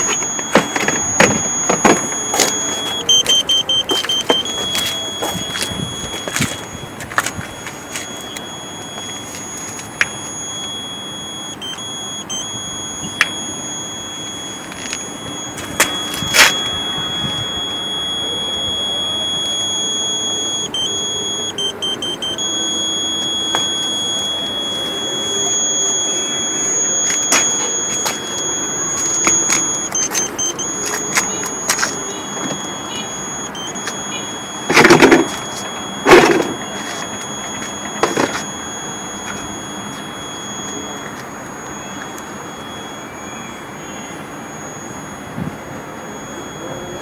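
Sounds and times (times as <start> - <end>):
high-pitched electronic buzzer: 0.0 - 47.0.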